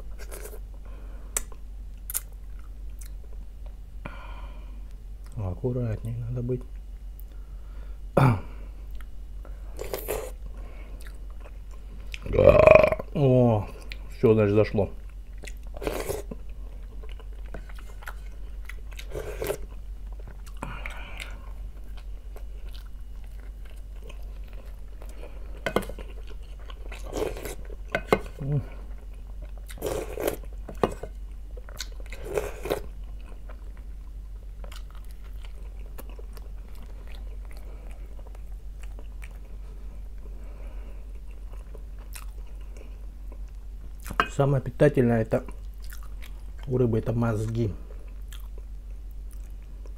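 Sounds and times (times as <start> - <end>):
man chewing and eating: 0.0 - 3.8, 8.8 - 14.2, 14.9 - 44.3, 45.3 - 46.8, 47.4 - 49.9
low steady hum: 0.0 - 49.9.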